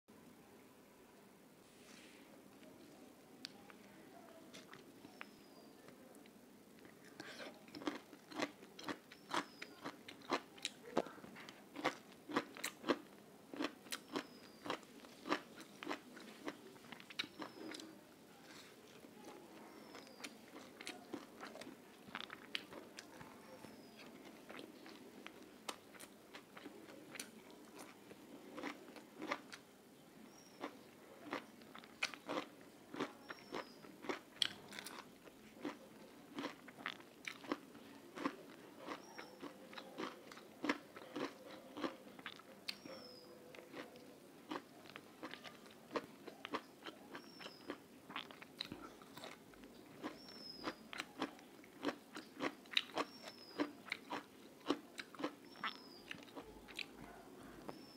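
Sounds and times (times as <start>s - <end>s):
person chewing crunchy food: 4.5s - 5.4s, 6.8s - 29.6s, 30.3s - 57.8s.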